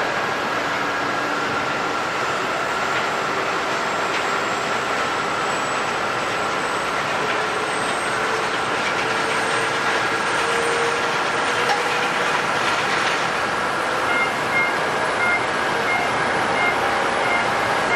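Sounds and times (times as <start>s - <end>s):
jet engines running: 0.0s - 17.9s.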